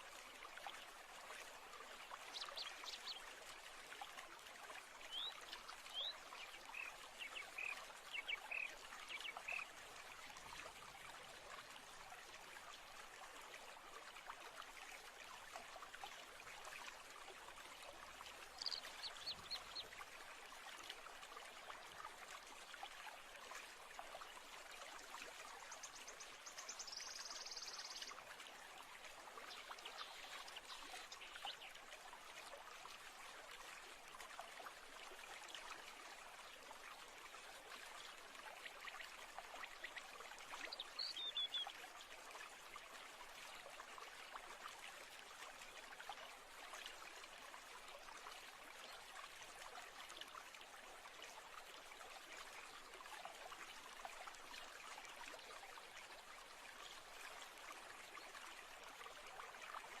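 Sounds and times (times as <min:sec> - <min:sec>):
stream running: 0:00.0 - 1:00.0.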